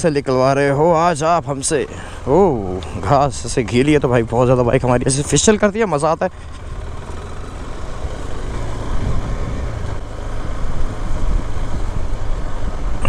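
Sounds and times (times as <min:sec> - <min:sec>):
motorcycle engine running: 0:00.7 - 0:12.6.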